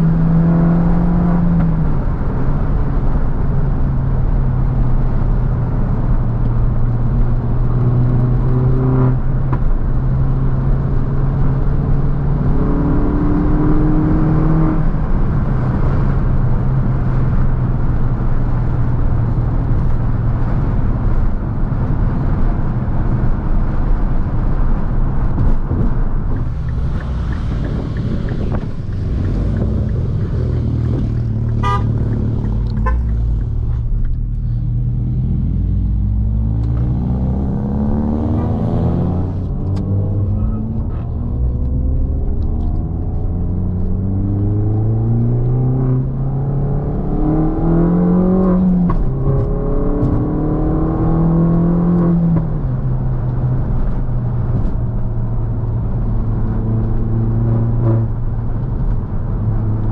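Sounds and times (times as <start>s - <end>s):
car engine revving: 0.0s - 18.1s, 23.1s - 59.9s
road and tyre noise: 0.0s - 59.9s.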